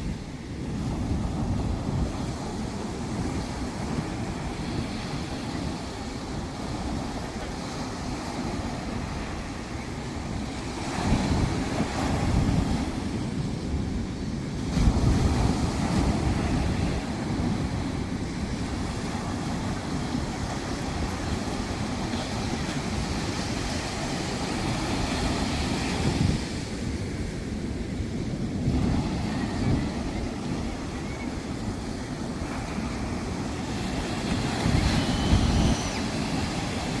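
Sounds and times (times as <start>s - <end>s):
waves washing onto a beach: 0.0s - 37.0s
wind buffeting the microphone: 0.0s - 37.0s.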